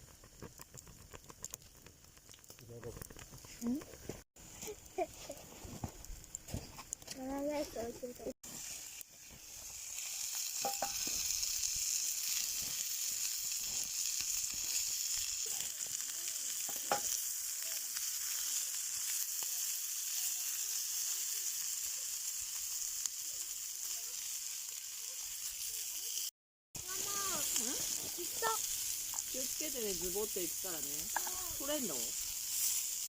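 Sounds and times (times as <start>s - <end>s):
sausages sizzling in a skillet: 0.0s - 33.0s.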